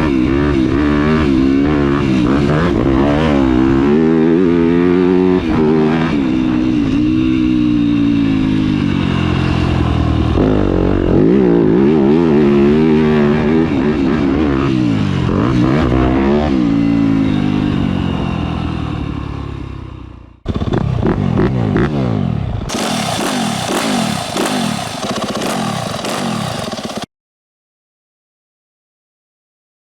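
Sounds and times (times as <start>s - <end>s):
motorcycle engine revving: 0.0s - 27.1s.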